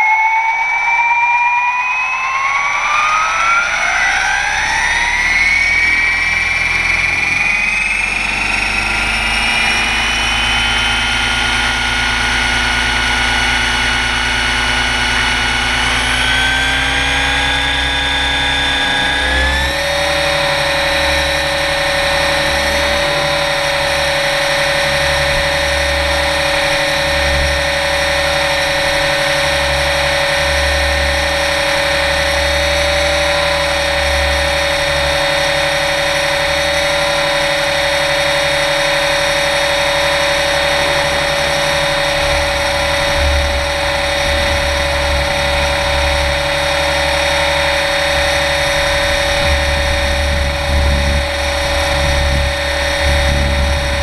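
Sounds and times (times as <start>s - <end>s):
helicopter motor and rotor whine: 0.0s - 54.0s
low rumble: 3.1s - 54.0s.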